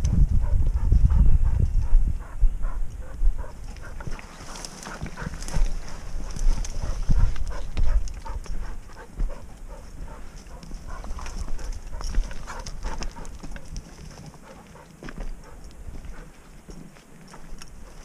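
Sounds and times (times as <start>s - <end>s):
low thumps from walking: 0.0s - 16.9s
footsteps on stony ground: 0.0s - 18.0s.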